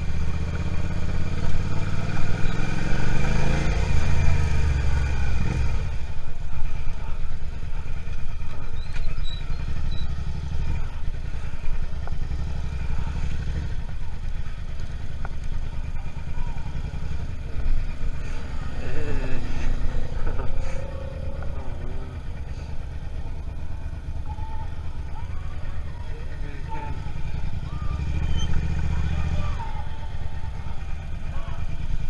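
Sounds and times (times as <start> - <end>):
motorcycle engine running steadily: 0.0 - 32.0.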